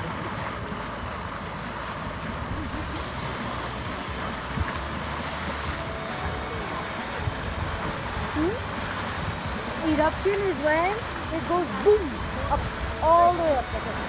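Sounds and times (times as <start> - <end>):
mud churning and sloshing: 0.0 - 14.0.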